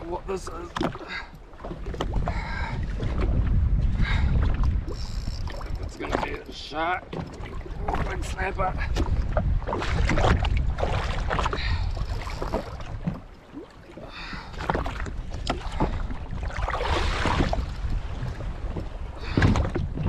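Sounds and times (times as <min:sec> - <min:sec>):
water splashing against hull: 0:00.0 - 0:20.0
wind buffeting microphone: 0:00.0 - 0:20.0.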